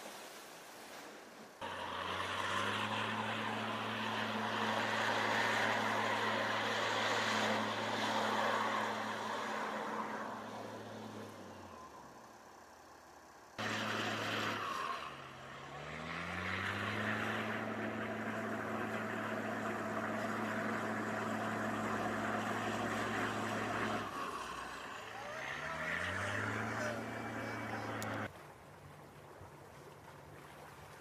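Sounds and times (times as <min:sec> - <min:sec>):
churning water hiss: 0:00.0 - 0:28.2
vehicle engine hum: 0:01.6 - 0:31.0.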